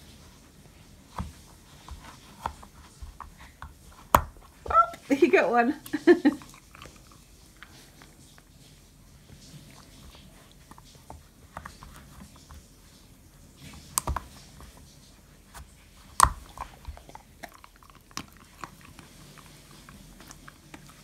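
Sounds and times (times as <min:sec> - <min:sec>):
dog chewing rubber toy: 0:01.0 - 0:05.1, 0:06.3 - 0:21.0.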